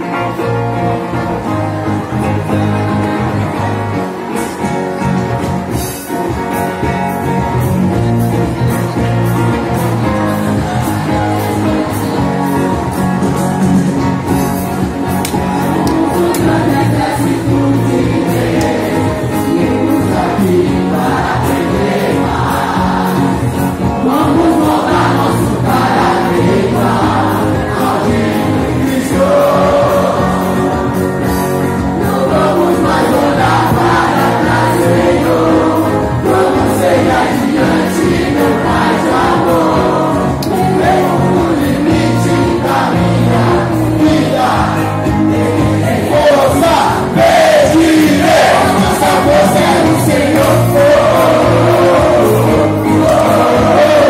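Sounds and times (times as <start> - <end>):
backing music with bass line: 0.0 - 54.0
crowd singing in unison: 0.0 - 54.0.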